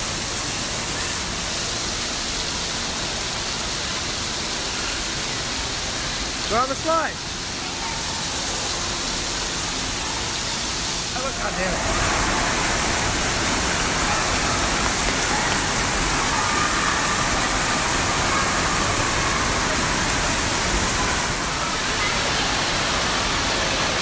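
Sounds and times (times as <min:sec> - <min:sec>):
splashing falling water: 0:00.0 - 0:24.0.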